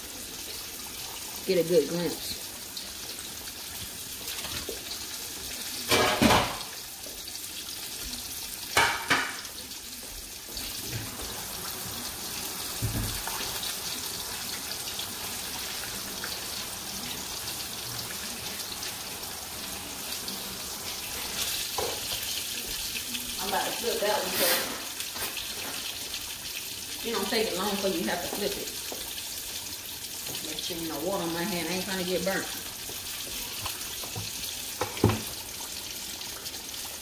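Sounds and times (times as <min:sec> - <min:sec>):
fish frying in hot oil: 0:00.0 - 0:37.0.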